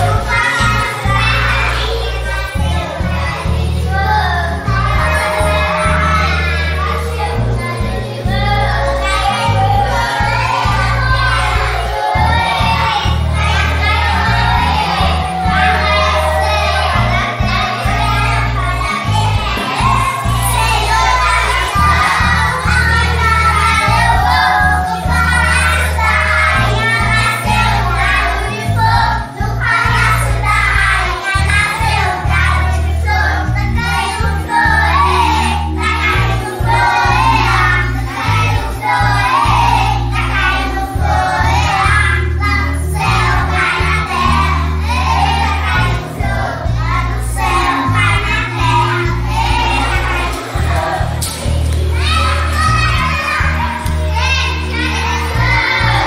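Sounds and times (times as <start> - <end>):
music with steady bass line: 0.0 - 56.0
young children singing: 0.0 - 56.0.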